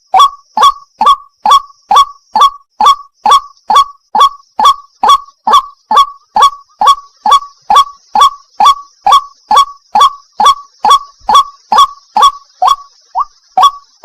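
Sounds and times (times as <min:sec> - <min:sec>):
bird calling wak: 0:00.0 - 0:14.0.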